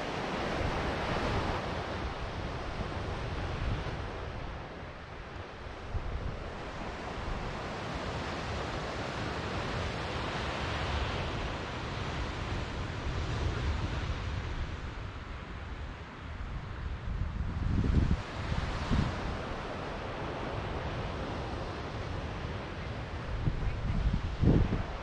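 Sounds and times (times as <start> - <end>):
ocean surf washing ashore: 0.0 - 25.0
wind rumbling on microphone: 0.0 - 25.0.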